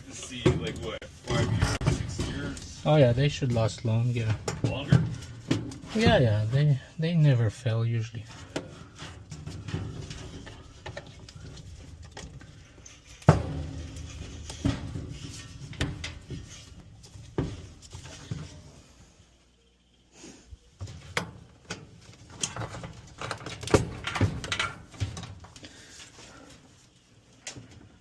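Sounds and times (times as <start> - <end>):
parts and tools knocking and rattling: 0.0 - 6.9, 8.2 - 19.1, 20.8 - 28.0.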